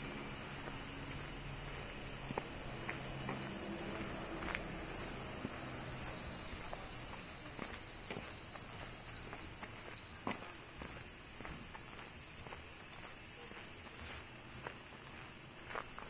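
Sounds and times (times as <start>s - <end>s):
cicadas singing: 0.0s - 16.0s.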